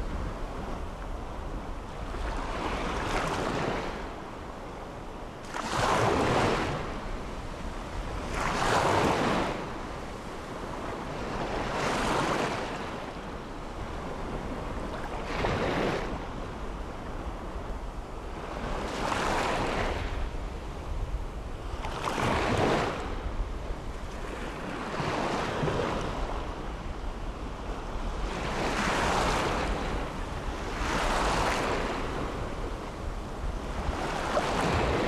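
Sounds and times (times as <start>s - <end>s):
waves breaking on beach: 5.4s - 23.3s, 24.0s - 35.0s.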